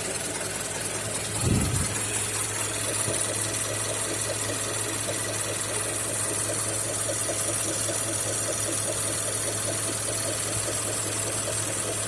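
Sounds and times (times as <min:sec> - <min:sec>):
car engine idling with ticking knock: 0:00.0 - 0:12.0.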